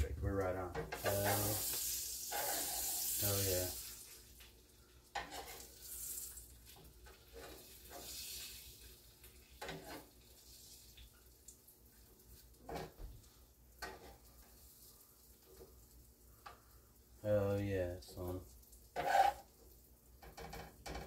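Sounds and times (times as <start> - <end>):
soft hiss: 0.2 - 20.1.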